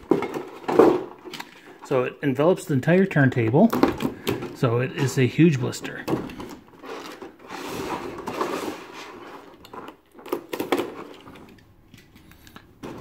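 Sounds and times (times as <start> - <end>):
plastic scraping and crinkling: 0.0 - 1.8, 3.6 - 13.0.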